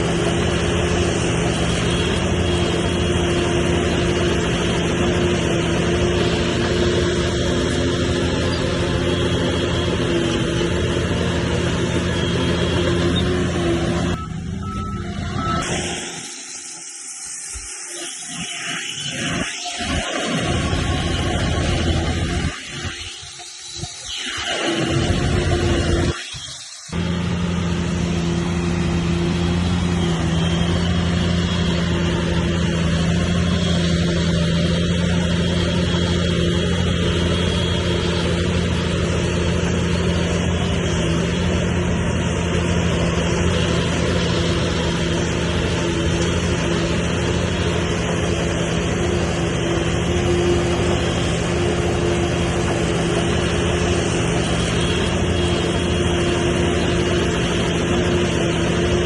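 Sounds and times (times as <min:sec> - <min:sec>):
heavy diesel engine running: 0:00.0 - 0:18.3, 0:19.0 - 0:24.0, 0:24.8 - 0:26.1, 0:26.8 - 0:59.0.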